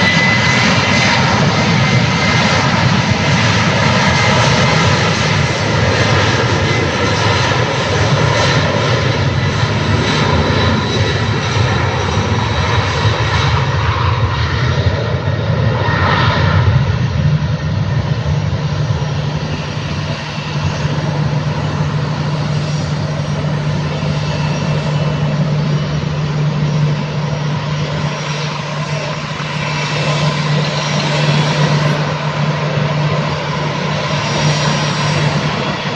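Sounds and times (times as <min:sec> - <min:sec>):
jet engines at takeoff power: 0:00.0 - 0:35.9.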